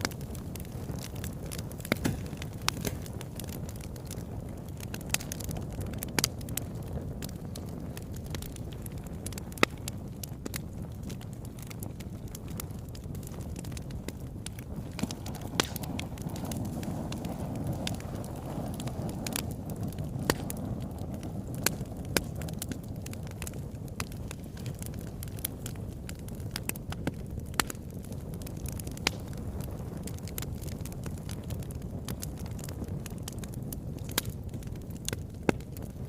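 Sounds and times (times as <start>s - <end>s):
fire crackles and pops: 0.0s - 36.0s
wood fire burning: 0.0s - 36.0s.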